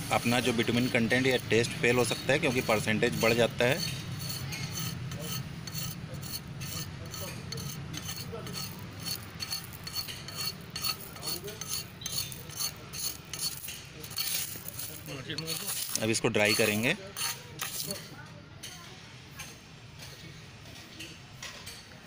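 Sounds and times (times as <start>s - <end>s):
spoon scraping stones in metal bowl: 0.1s - 18.1s.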